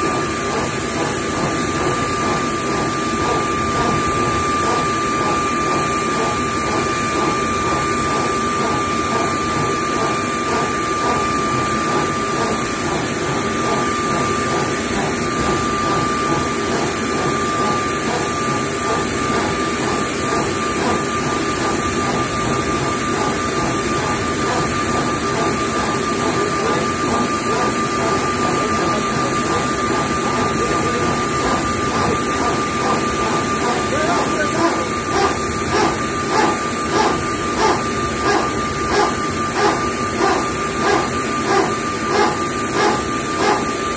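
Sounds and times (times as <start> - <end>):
aircraft turbine drone: 0.0 - 43.9
high steady turbine whine: 0.0 - 43.9.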